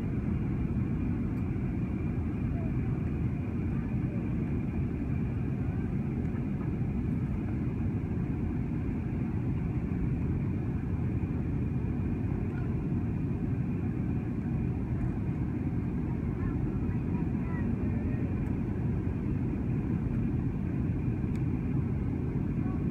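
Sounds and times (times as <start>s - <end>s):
airliner cabin rumble: 0.0s - 22.9s.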